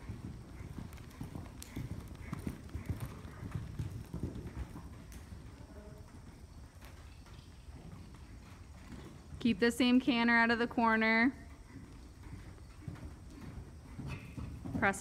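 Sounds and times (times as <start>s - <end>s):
horse hoofbeats on dirt: 0.0s - 15.0s.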